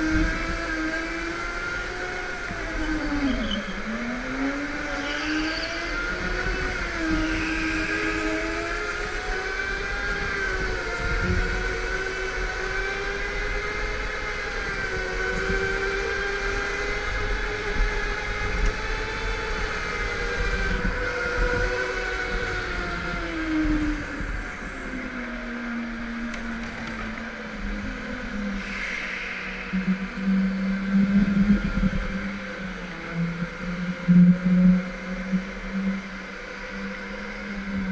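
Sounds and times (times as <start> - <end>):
go-kart motor: 0.0 - 28.6, 30.6 - 37.9.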